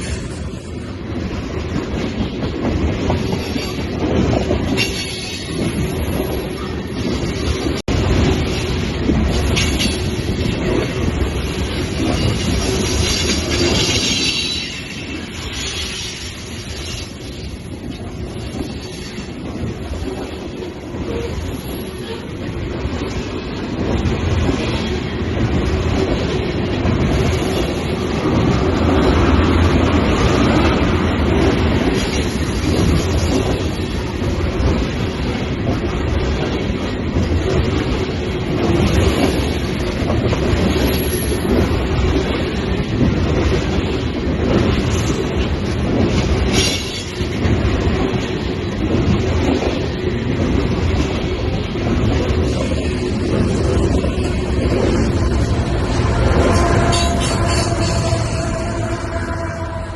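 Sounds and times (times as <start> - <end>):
train wheels clacking over rails: 0.0 - 59.9.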